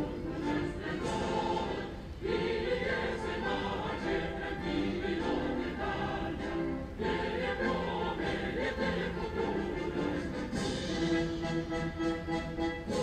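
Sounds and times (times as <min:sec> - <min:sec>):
choir singing: 0:00.0 - 0:12.0.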